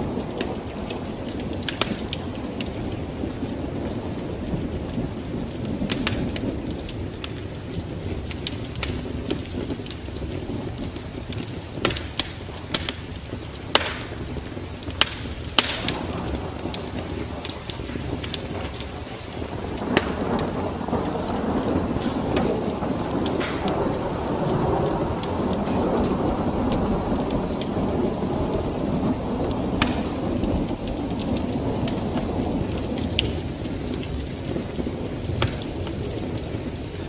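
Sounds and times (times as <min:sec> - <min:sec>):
rumble of thunder: 0:00.0 - 0:37.0
wood fire crackling: 0:00.0 - 0:37.0.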